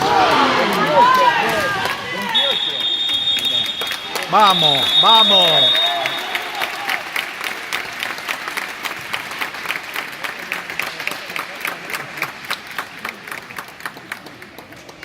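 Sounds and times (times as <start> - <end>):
group of people clapping: 0.0 - 15.0.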